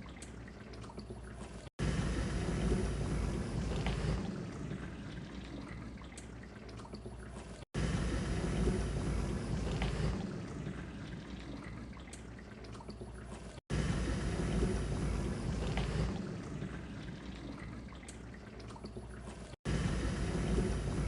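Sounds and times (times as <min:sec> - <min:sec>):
water spraying and sloshing: 0:00.0 - 0:21.0
low motor rumble: 0:01.8 - 0:12.4, 0:13.0 - 0:21.0.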